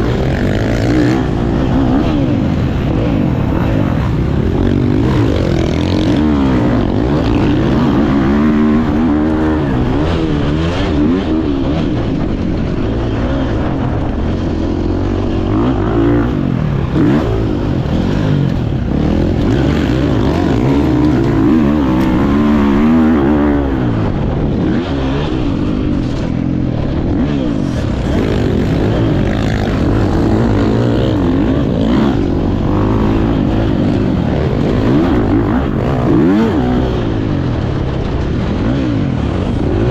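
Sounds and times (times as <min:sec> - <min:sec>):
motocross bike engine revving: 0:00.0 - 0:39.9
wind rumbling on microphone: 0:00.0 - 0:39.9.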